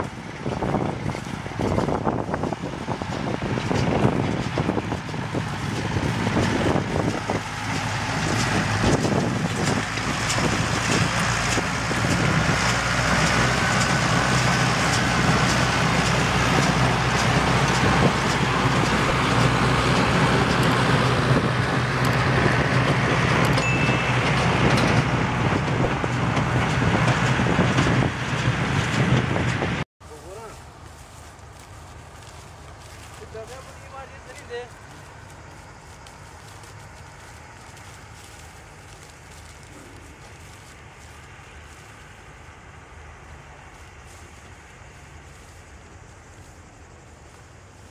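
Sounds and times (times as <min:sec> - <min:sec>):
car engine running at low revs: 0:00.0 - 0:47.9.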